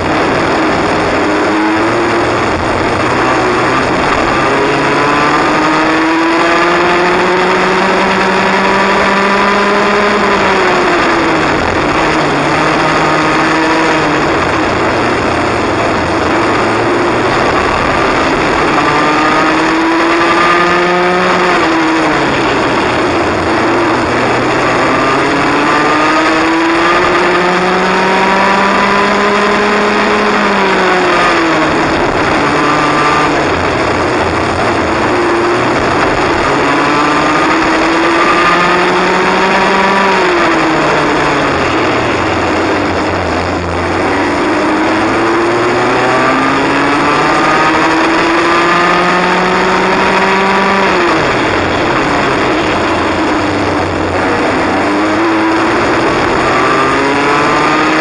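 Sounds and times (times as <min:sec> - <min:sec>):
kart engine revving: 0:00.0 - 0:58.0
wind and tyre noise: 0:00.0 - 0:58.0.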